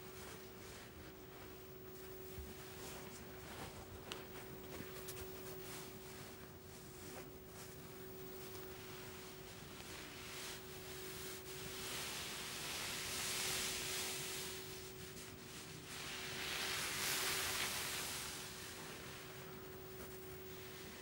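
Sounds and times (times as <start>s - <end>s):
soft hiss: 0.0s - 21.0s
steady pure tone: 0.0s - 21.0s.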